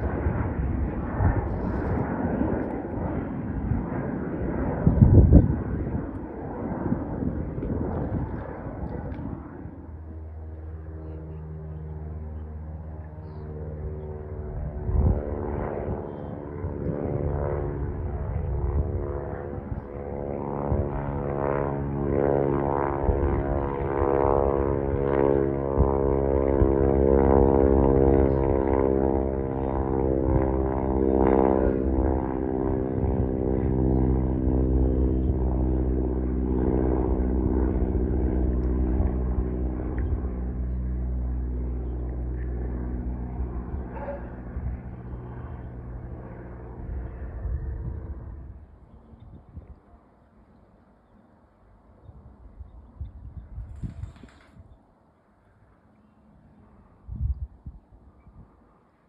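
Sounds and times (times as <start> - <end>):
propeller airplane droning: 0.0 - 59.0.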